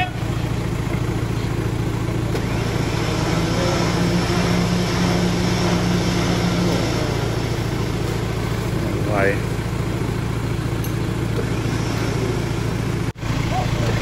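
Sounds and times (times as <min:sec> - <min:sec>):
off-road engine running: 0:00.0 - 0:14.0.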